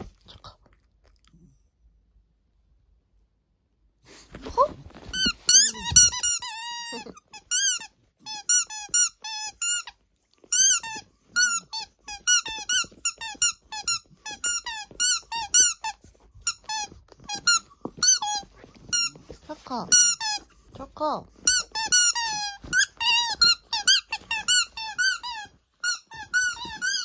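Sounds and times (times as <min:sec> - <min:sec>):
rubber squeaky ball squeaking: 0:04.5 - 0:27.0.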